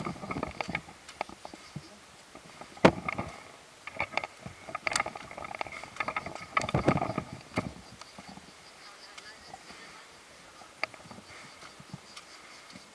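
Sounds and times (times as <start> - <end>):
leaves and twigs rustling and snapping: 0.0 - 12.9.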